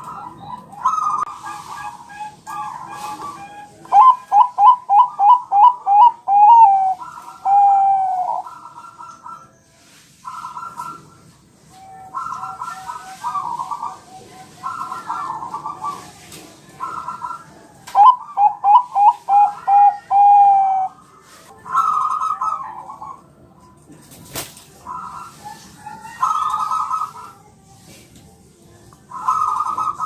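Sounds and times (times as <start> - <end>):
dove cooing: 0.0 - 9.6, 10.2 - 21.0, 21.6 - 23.4, 24.8 - 27.5, 29.1 - 30.0.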